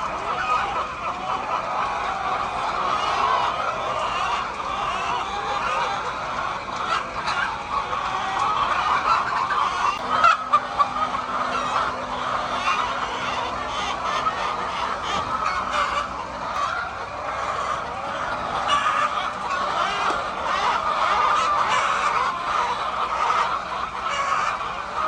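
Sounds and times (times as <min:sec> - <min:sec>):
chickens clucking and cackling: 0:00.0 - 0:25.0.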